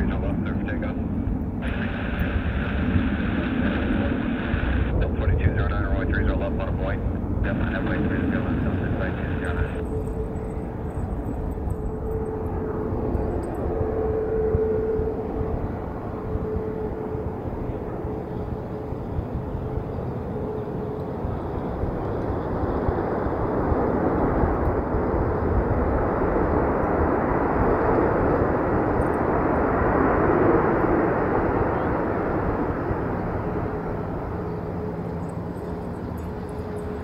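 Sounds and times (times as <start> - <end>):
jet aircraft engine roar: 0.0 - 37.0.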